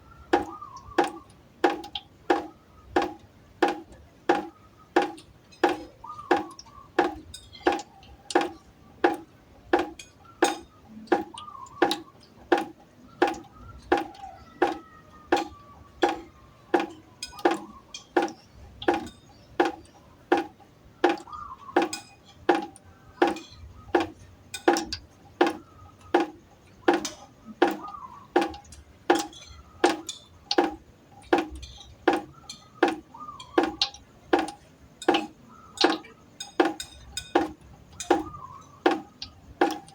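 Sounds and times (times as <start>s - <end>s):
water drops plinking into a pot: 0.0s - 39.9s.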